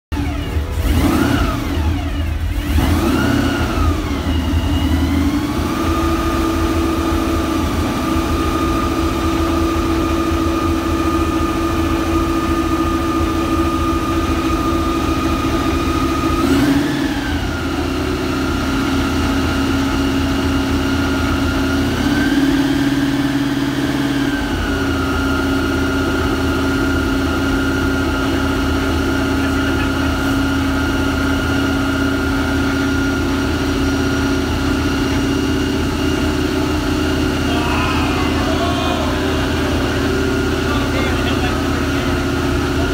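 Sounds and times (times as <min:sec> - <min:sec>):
engine throttle blips: 0:00.0 - 0:42.9
car engine idling: 0:00.1 - 0:42.9.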